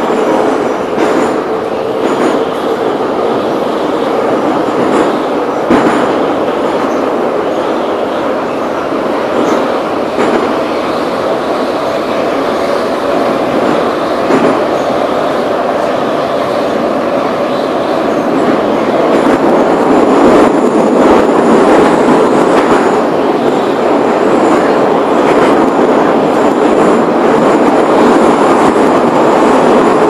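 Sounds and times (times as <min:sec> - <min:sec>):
faint train whine: 0:00.0 - 0:30.0
rumble of train wheels: 0:00.0 - 0:30.0.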